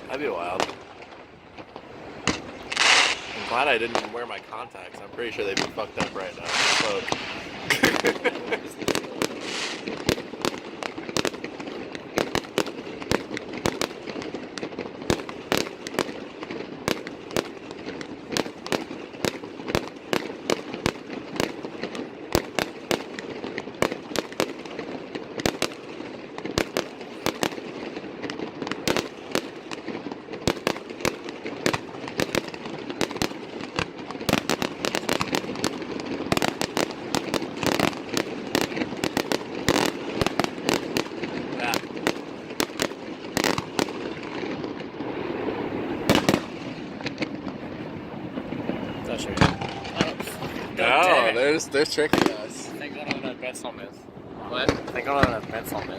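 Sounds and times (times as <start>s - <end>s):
background noise: 0.0s - 55.9s
fireworks bangs and crackles: 0.0s - 55.9s.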